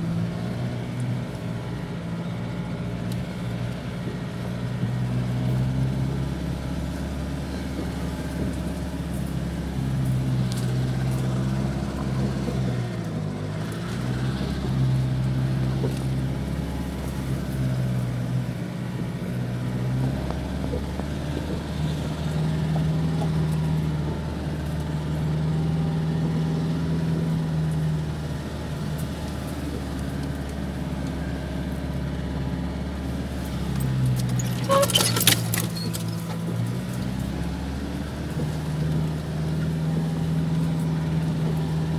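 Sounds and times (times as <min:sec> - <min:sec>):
diesel engine running at low revs: 0:00.0 - 0:41.9.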